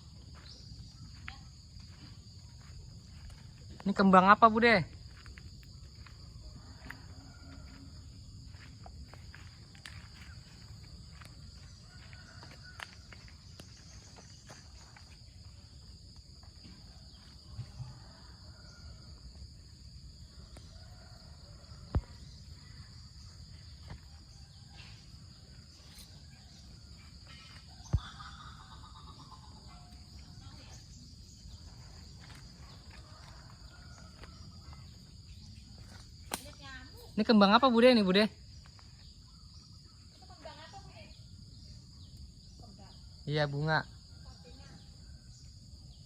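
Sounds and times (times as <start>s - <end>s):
insects chirping chorus: 0.0s - 46.0s.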